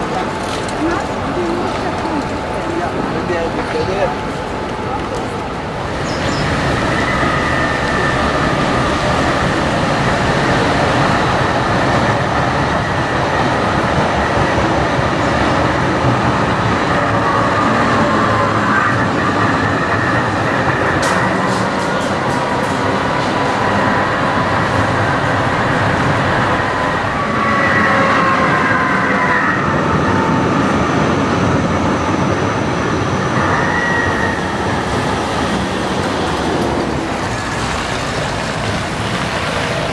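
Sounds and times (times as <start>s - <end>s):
trams rolling on track: 0.0s - 39.9s.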